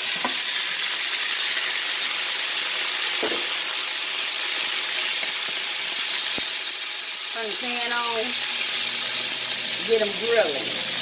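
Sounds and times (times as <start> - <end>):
hot dogs sizzling in skillet: 0.0 - 11.0.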